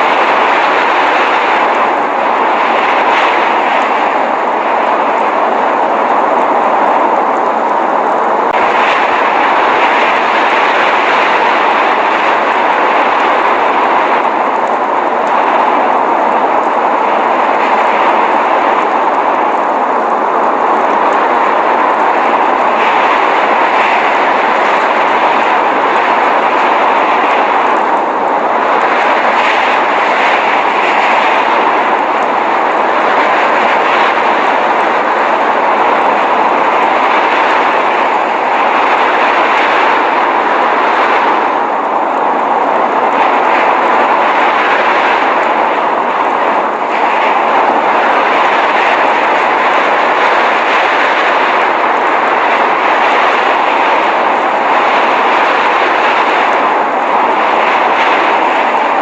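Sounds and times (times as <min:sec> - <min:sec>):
blizzard wind rushing: 0:00.0 - 0:59.0.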